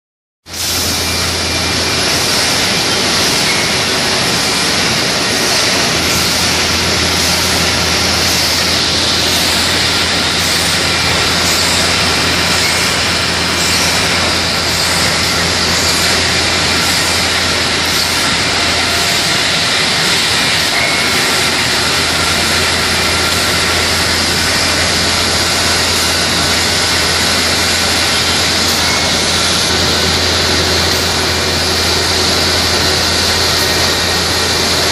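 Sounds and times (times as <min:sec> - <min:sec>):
converting machine running: 0:00.6 - 0:34.9
low machine hum: 0:00.8 - 0:34.9.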